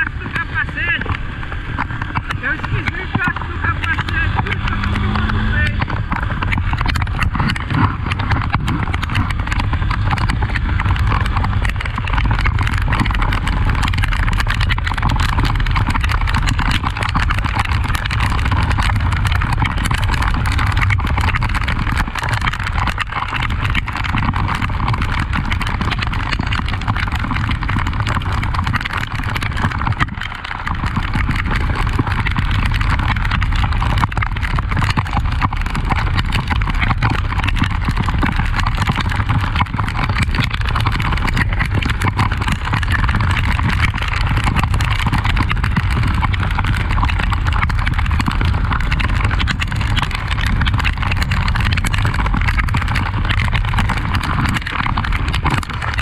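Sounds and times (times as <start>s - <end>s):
dense clicking and knocking: 0.0s - 56.0s
motorcycle engine running: 0.0s - 56.0s.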